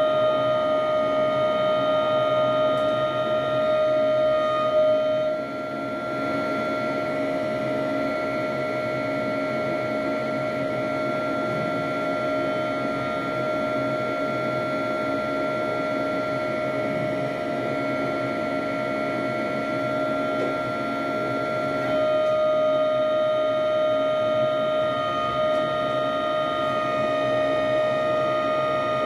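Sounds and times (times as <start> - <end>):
hydraulic crane drive whine: 0.0 - 29.0.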